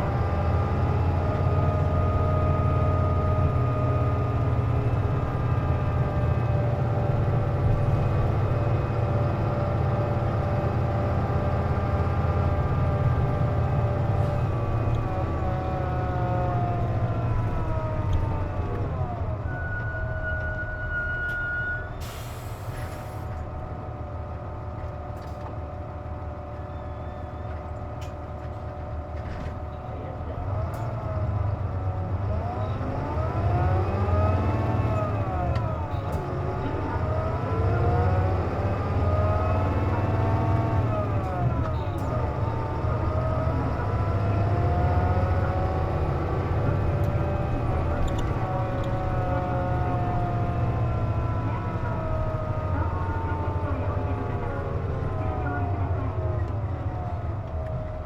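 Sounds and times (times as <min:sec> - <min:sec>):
bus engine: 0:00.0 - 0:58.0.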